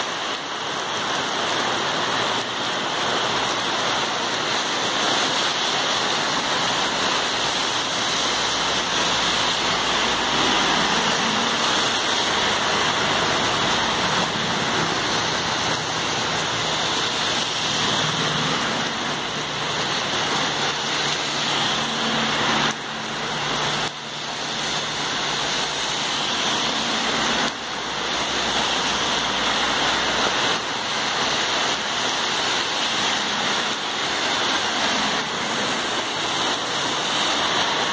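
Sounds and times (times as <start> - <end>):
car passing on wet road: 0.0 - 37.9
heavy rain on pavement: 0.0 - 37.9.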